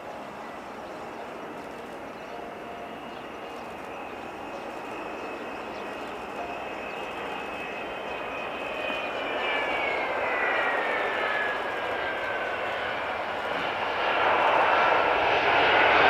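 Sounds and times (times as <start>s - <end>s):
jet engines whining: 0.0s - 16.0s.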